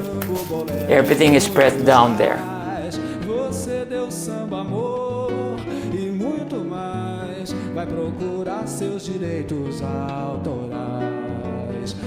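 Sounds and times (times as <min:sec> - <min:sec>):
acoustic guitar song with singing: 0:00.0 - 0:12.0.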